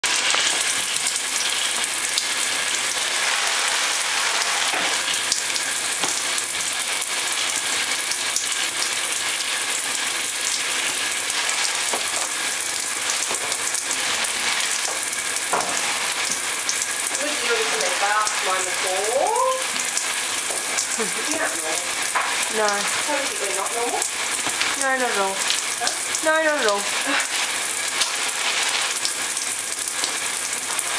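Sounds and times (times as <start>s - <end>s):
shower water spraying: 0.0s - 30.9s.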